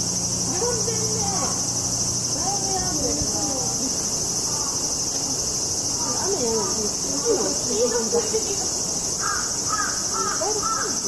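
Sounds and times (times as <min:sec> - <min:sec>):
insects buzzing: 0:00.0 - 0:11.0
short curling calls: 0:00.0 - 0:11.0
faint distant voices: 0:00.3 - 0:11.0.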